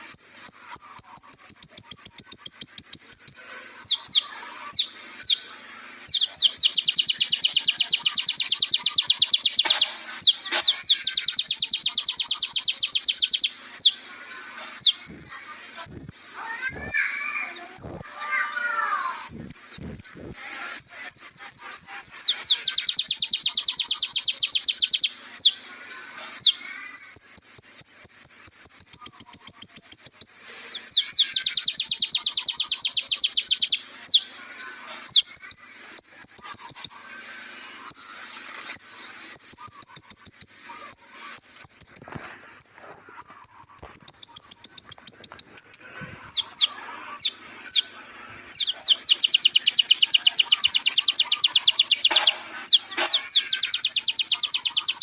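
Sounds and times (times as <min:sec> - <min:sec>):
bird trilling and whistling: 0:00.0 - 0:05.4, 0:06.0 - 0:14.0, 0:14.7 - 0:18.2, 0:18.8 - 0:25.6, 0:26.4 - 0:34.3, 0:35.1 - 0:37.3, 0:37.9 - 0:55.0.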